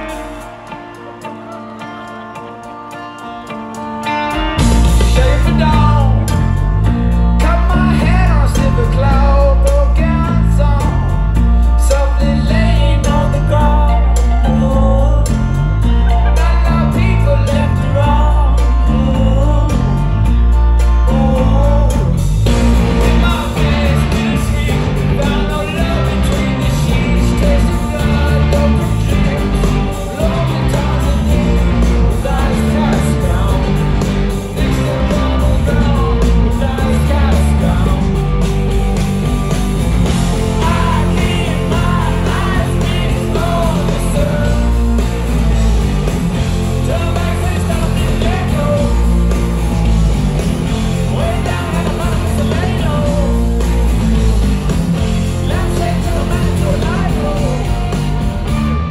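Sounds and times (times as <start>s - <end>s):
rock band playing live: 0.0s - 58.9s.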